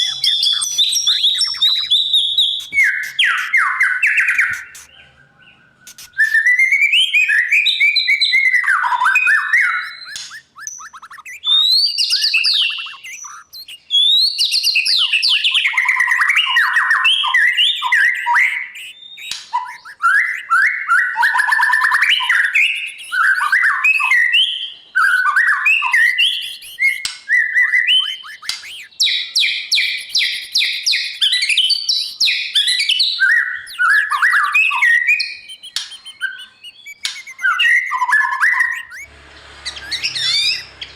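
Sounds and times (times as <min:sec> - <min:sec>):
songbird whistling varied phrases: 0:00.0 - 0:04.9, 0:05.7 - 0:39.1.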